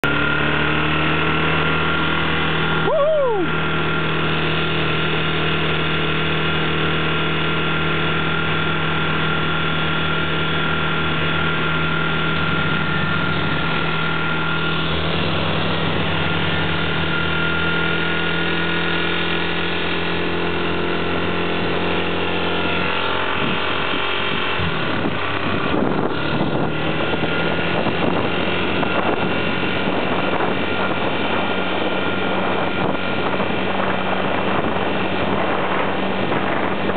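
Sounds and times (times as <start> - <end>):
dirt bike engine running: 0.0 - 36.9
wind and road noise: 0.0 - 36.9.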